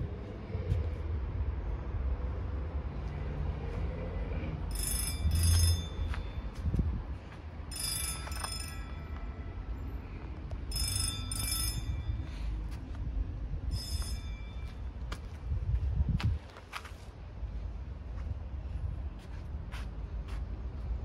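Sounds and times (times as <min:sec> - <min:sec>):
traffic rumble: 0:00.0 - 0:21.0
wind: 0:00.0 - 0:21.0.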